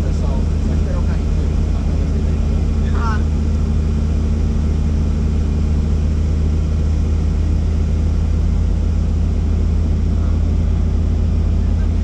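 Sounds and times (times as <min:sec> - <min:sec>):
helicopter flying: 0:00.0 - 0:12.0.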